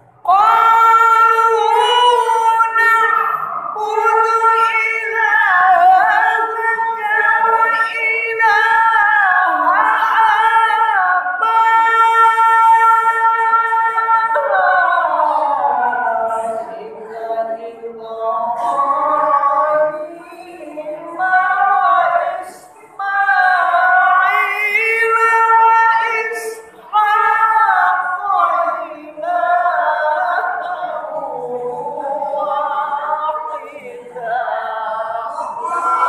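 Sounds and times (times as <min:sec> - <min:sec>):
man reciting in melodic chant: 0:00.2 - 0:36.0.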